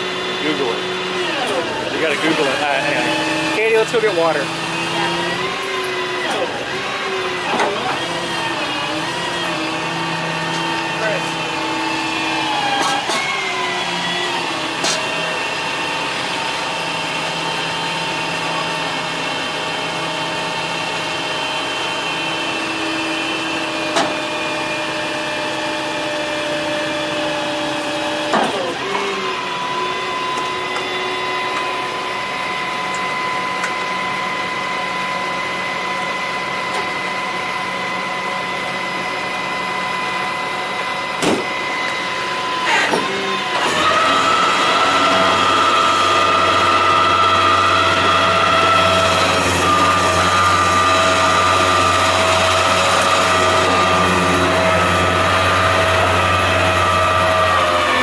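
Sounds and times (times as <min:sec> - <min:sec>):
tow truck engine whining: 0:00.0 - 0:58.0.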